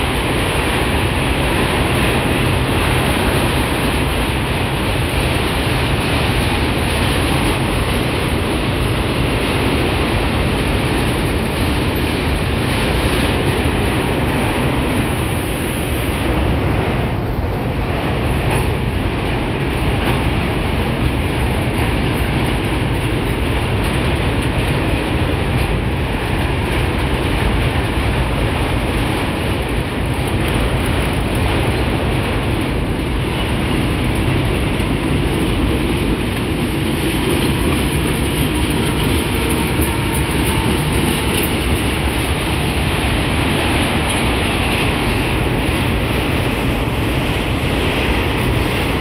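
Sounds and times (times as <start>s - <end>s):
freight train rolling past: 0.0s - 49.0s
steel wheels rattling on rails: 0.0s - 49.0s.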